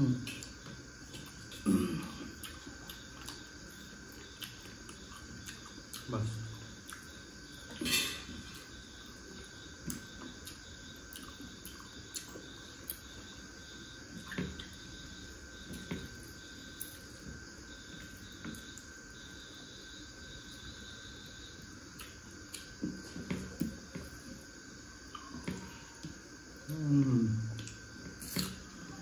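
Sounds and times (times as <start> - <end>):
crickets chirping: 0.0 - 29.0
people eating with hands: 0.0 - 29.0.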